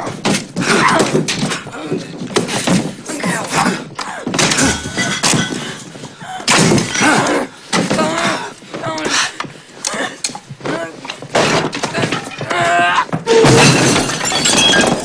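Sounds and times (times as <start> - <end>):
chair banging and crashing: 0.0 - 8.4, 10.3 - 15.0.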